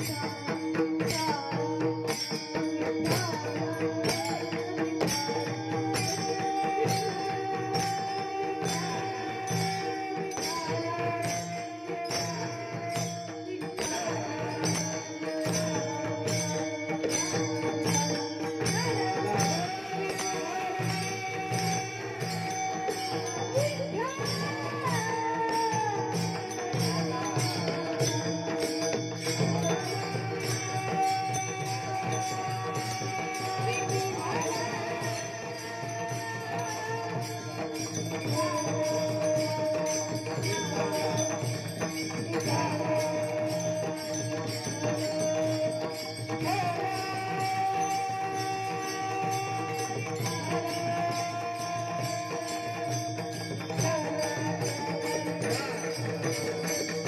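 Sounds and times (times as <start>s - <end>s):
small jingling cymbals: 0.0s - 57.0s.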